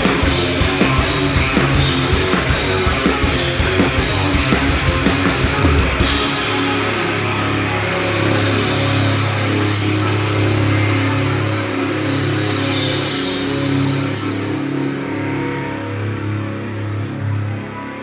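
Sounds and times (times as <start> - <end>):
rock band playing: 0.0 - 16.4
drums: 0.0 - 17.3
sustained electric guitar: 0.0 - 18.0.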